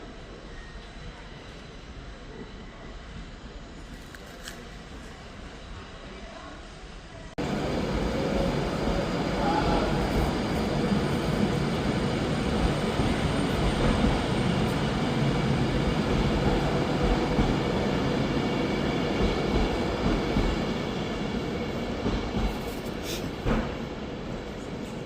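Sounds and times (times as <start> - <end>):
train rumbling past: 4.6 - 25.0.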